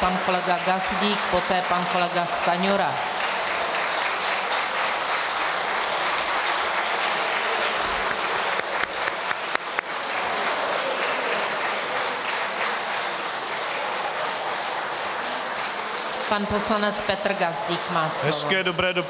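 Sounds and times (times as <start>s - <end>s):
sharp loud claps: 0.0s - 16.6s
crowd applause: 0.0s - 19.0s.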